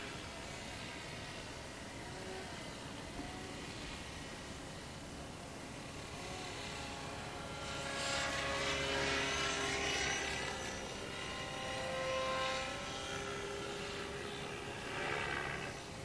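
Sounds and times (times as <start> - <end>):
model helicopter motor whine: 0.0 - 16.0.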